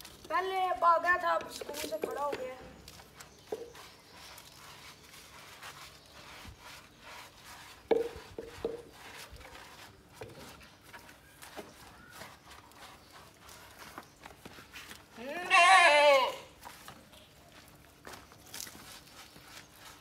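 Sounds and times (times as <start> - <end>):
brush scrubbing wet fur: 0.0 - 15.2, 16.4 - 20.0.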